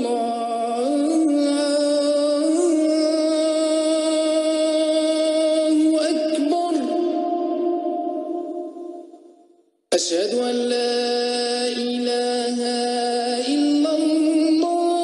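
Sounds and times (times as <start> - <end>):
man chanting call to prayer: 0.0 - 9.0, 9.9 - 15.0.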